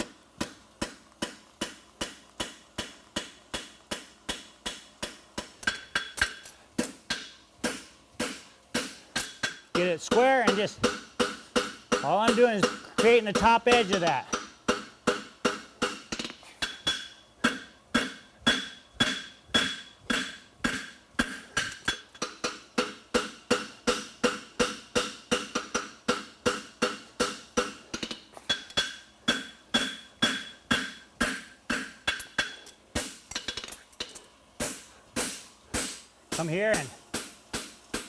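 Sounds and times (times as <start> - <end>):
hammer striking horseshoe on anvil: 0.0 - 38.0.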